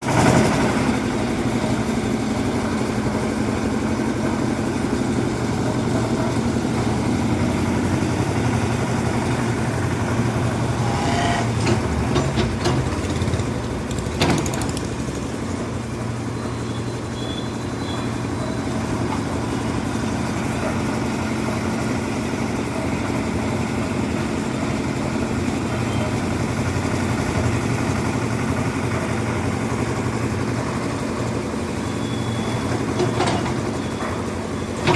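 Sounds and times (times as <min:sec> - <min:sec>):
concrete mixer engine: 0:00.0 - 0:34.9.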